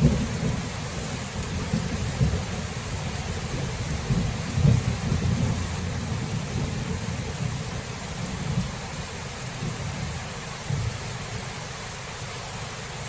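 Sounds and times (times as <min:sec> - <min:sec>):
thunder rumbling: 0:00.0 - 0:11.5
steady rain hiss: 0:00.0 - 0:13.0.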